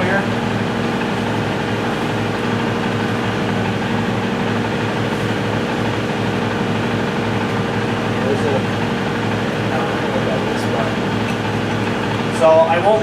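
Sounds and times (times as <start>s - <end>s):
machine motor humming: 0.0s - 13.0s.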